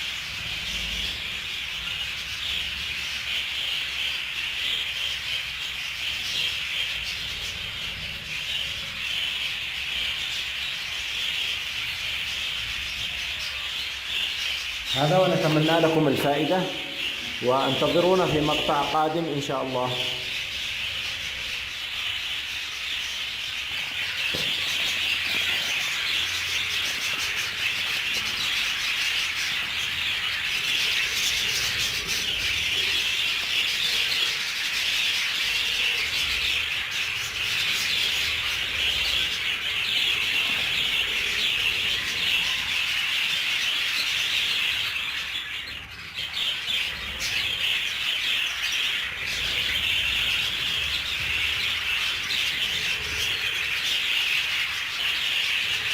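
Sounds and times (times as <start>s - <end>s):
budgerigars chattering and chirping: 0.0s - 55.9s.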